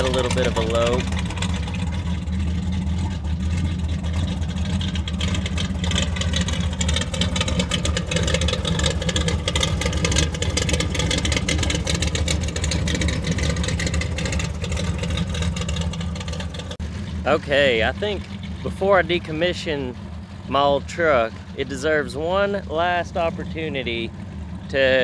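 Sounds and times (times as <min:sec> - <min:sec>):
engine idling with slight lope: 0:00.0 - 0:25.0.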